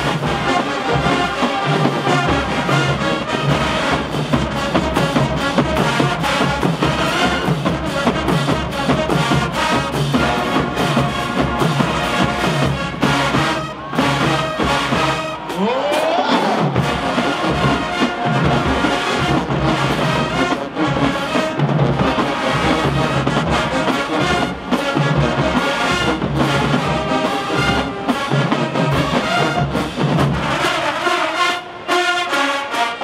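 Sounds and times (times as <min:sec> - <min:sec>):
steady drum beat: 0:00.0 - 0:31.0
trombones and trumpets: 0:00.0 - 0:33.0.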